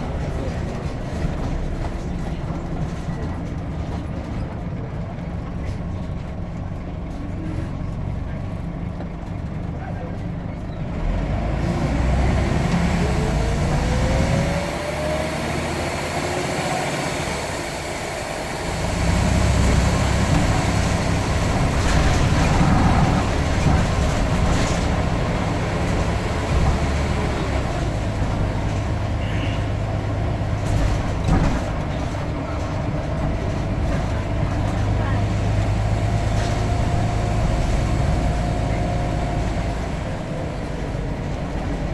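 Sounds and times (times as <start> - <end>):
bus engine running under load: 0.0 - 41.9.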